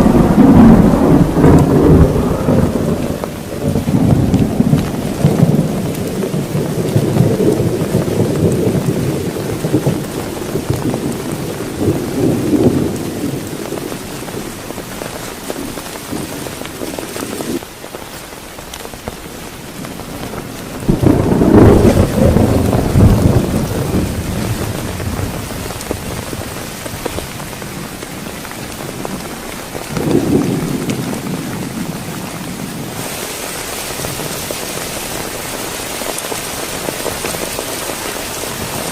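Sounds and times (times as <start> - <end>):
low rumble of thunder: 0.0 - 17.6, 19.8 - 38.9
heavy rain pouring: 0.0 - 38.9.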